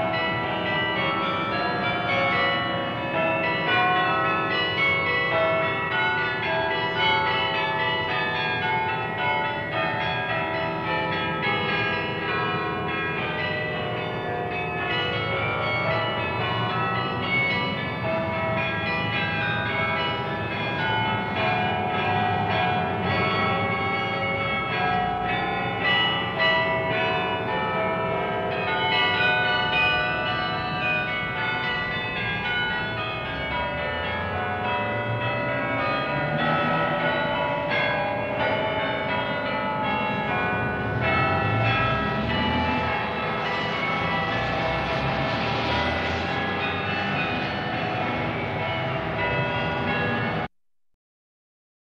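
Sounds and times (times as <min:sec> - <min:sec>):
church bells ringing a tune: 0:00.0 - 0:50.5.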